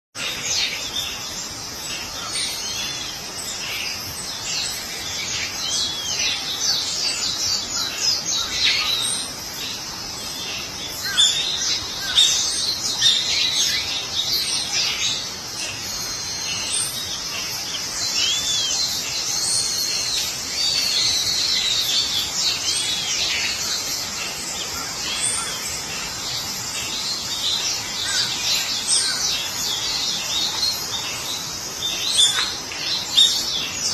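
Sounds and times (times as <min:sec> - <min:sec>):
birds chirping chorus: 0:00.2 - 0:33.9.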